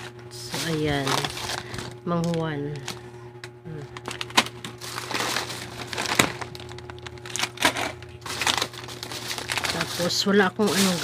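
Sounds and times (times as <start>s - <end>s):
sharp plastic crackles: 0.0s - 3.0s, 3.8s - 11.0s
plastic bags crinkling: 0.0s - 3.1s, 3.8s - 11.0s.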